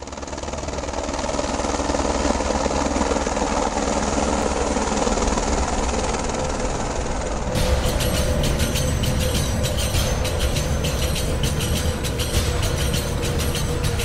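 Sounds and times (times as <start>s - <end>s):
helicopter flying overhead: 0.0s - 14.0s.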